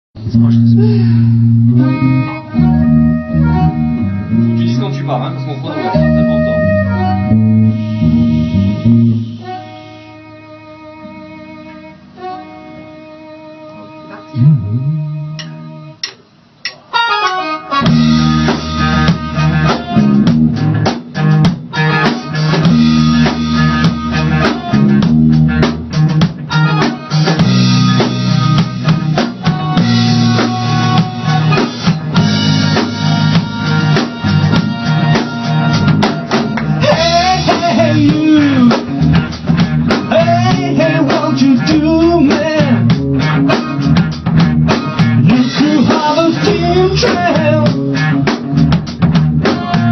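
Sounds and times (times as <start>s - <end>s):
rock band playing: 0.2s - 49.9s.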